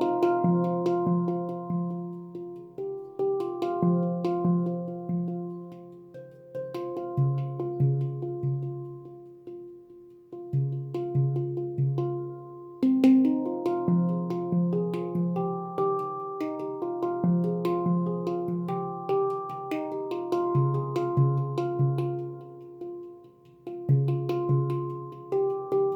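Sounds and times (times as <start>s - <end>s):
handpan notes played by hand: 0.0s - 25.9s.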